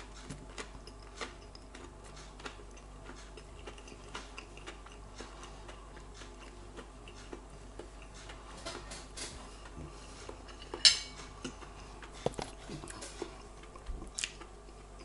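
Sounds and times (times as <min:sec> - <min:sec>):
eating and mouth clicks: 0:00.0 - 0:10.5, 0:12.8 - 0:15.0
low steady hum: 0:00.0 - 0:15.0.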